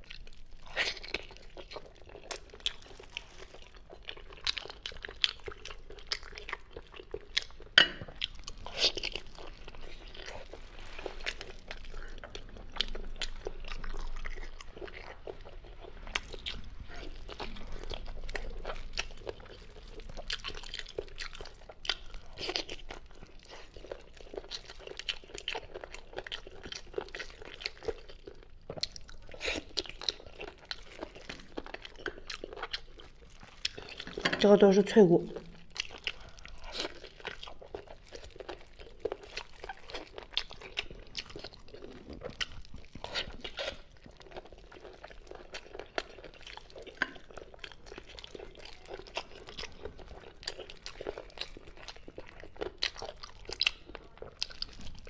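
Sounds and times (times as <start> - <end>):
chewing crunchy meat: 0.0 - 55.0.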